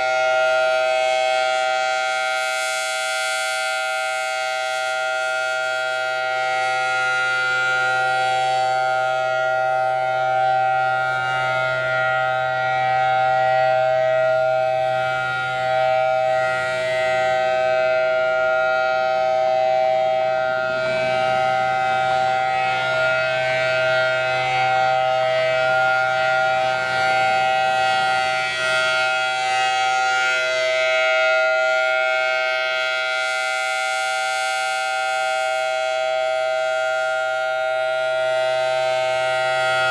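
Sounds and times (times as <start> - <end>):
civil defense siren steady tone: 0.0 - 39.9.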